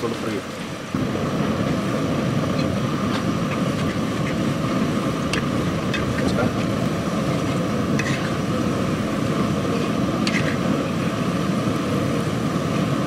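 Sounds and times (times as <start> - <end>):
gas burner roar: 0.0 - 13.0
oil hissing and bubbling: 0.0 - 13.0.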